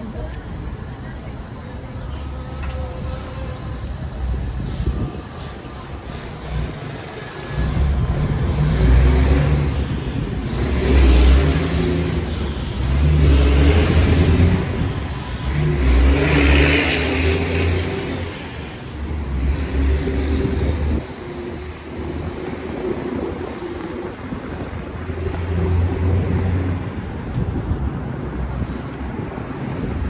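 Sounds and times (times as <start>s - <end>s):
vehicles passing: 0.0s - 30.0s
wind rumbling on microphone: 2.6s - 30.0s.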